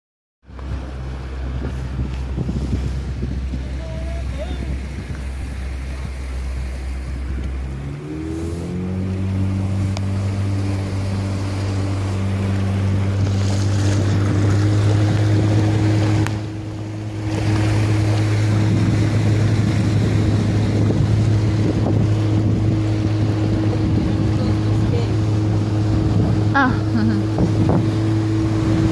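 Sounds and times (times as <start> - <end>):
motorboat engine: 0.4 - 28.9
water rushing along hull: 0.4 - 28.9
wind on microphone: 0.5 - 28.9.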